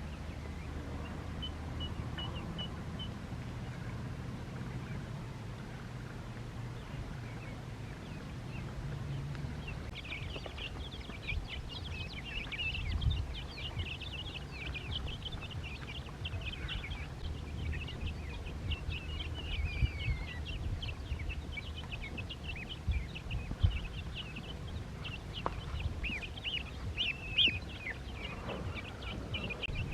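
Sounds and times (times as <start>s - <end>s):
ducklings peeping: 0.0s - 29.9s
low background rumble: 0.0s - 29.9s.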